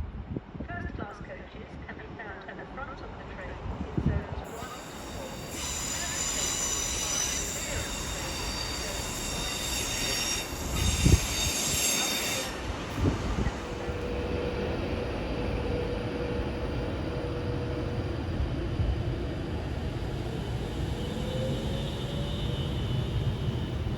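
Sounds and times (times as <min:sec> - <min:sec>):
train rumble: 0:00.2 - 0:23.9
train squealing: 0:04.5 - 0:23.9.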